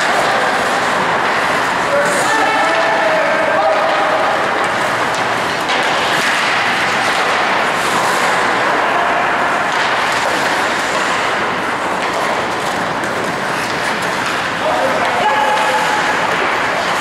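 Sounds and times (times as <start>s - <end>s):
hockey sticks clicking on puck: 0.0s - 17.0s
skate blades scraping ice: 0.0s - 17.0s.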